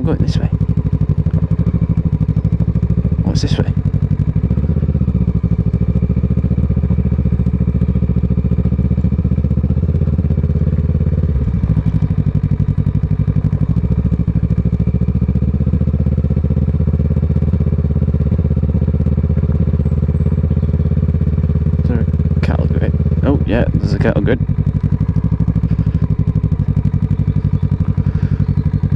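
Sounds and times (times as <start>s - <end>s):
motorcycle engine idling: 0.0s - 28.9s.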